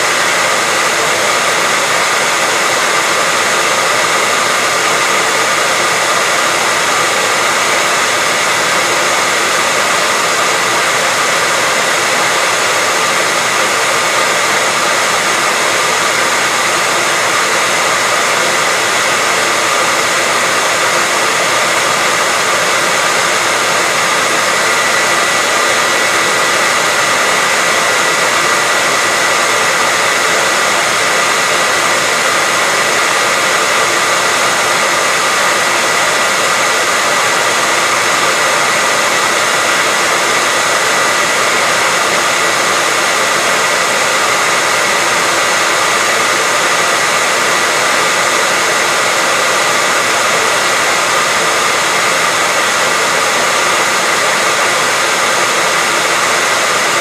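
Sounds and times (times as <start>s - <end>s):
hairdryer blowing air: 0.0s - 57.0s.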